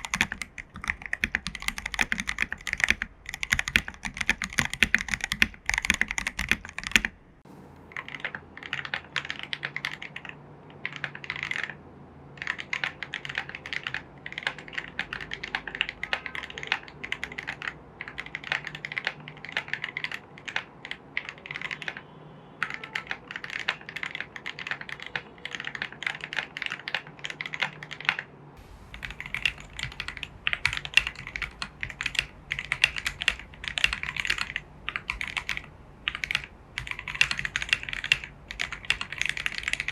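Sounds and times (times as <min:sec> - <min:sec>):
mechanical keyboard typing: 0:00.0 - 0:07.4, 0:08.1 - 0:11.8, 0:12.4 - 0:39.9.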